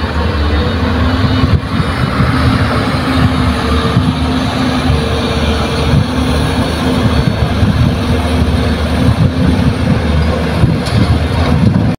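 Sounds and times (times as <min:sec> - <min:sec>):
truck engine under load: 0:00.0 - 0:11.9.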